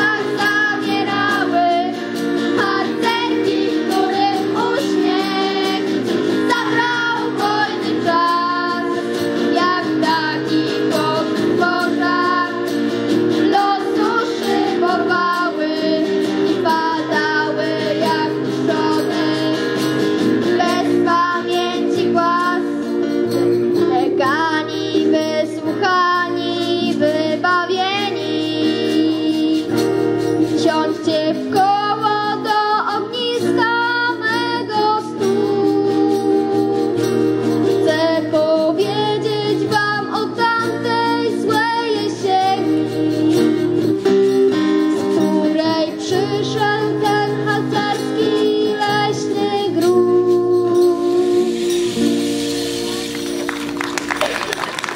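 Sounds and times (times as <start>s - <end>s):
girl singing with vibrato: 0.0s - 53.0s
acoustic guitar chords: 0.0s - 54.9s.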